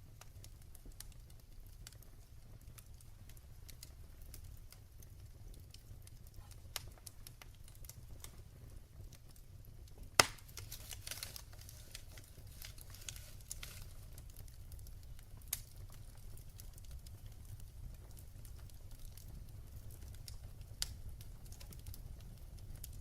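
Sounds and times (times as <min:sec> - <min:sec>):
fire popping: 0:00.0 - 0:23.0
wood fire crackling: 0:00.0 - 0:23.0.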